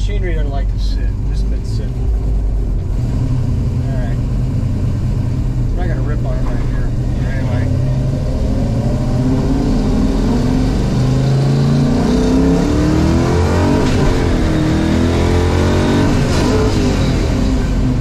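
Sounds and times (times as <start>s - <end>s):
car engine accelerating through gears: 0.0s - 18.0s.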